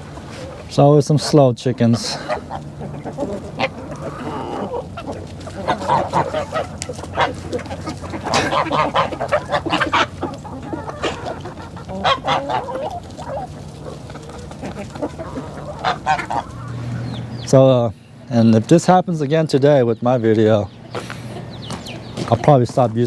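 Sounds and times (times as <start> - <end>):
poultry calling: 0.0 - 23.0.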